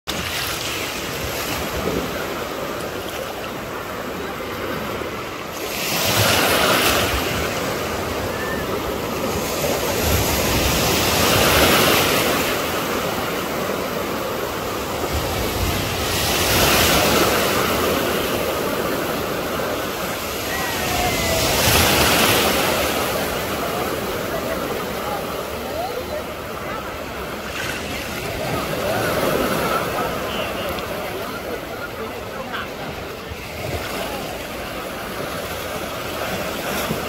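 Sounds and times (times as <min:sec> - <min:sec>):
waves breaking on sandy beach: 0:00.1 - 0:37.0.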